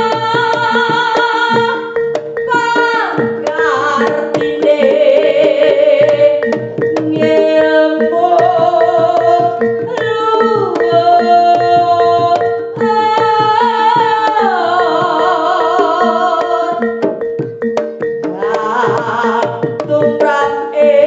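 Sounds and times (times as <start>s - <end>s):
hand drums beating: 0.0s - 21.0s
wavering sliding melody: 1.3s - 21.0s
steady ringing tone: 1.5s - 21.0s.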